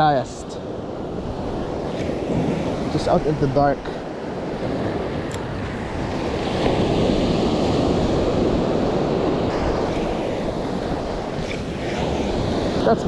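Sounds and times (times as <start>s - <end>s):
waves washing in: 0.0s - 13.0s
wind buffeting microphone: 0.0s - 13.0s.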